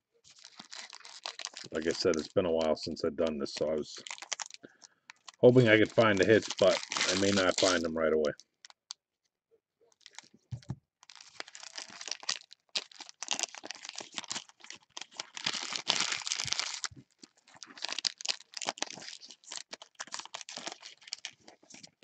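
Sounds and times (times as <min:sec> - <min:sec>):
card wrappers crinkling and tearing: 0:00.3 - 0:08.9, 0:10.0 - 0:10.4, 0:11.0 - 0:22.0.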